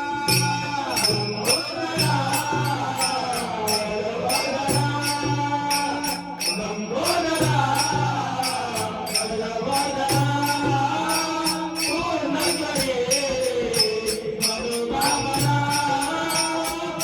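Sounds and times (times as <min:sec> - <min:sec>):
group singing a chant: 0:00.0 - 0:17.0
metallic hand percussion: 0:00.0 - 0:17.0.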